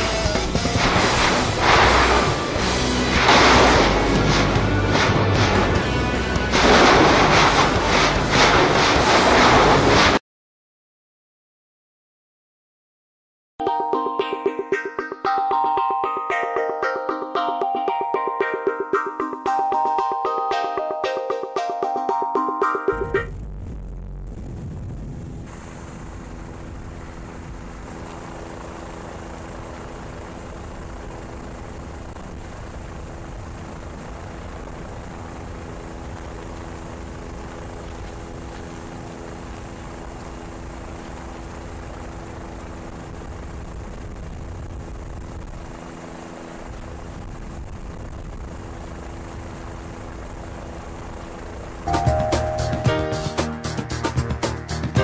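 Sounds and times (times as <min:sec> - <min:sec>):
aircraft engine drone: 0:00.0 - 0:10.2, 0:13.6 - 0:55.0.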